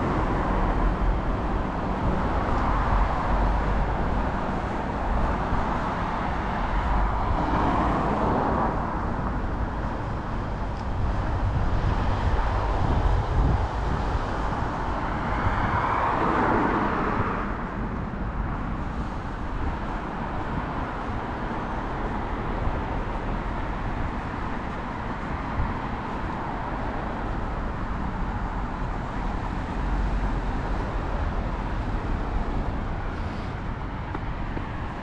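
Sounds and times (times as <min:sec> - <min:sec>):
cars passing: 0:00.0 - 0:35.0
road traffic rumble: 0:00.0 - 0:35.0.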